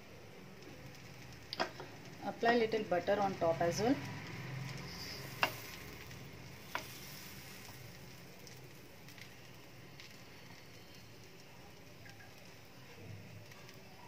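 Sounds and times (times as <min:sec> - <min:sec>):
butter sizzling faintly in pan: 0:00.0 - 0:14.0.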